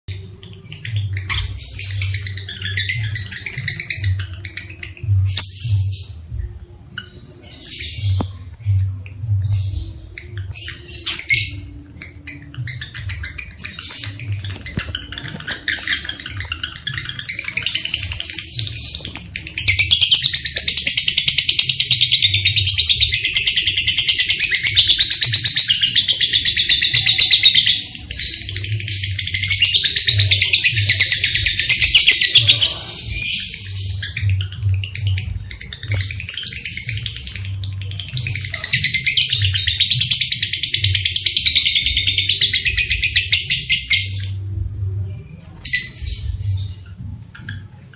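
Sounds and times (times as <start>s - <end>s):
lovebirds trilling calls: 0.1s - 44.5s.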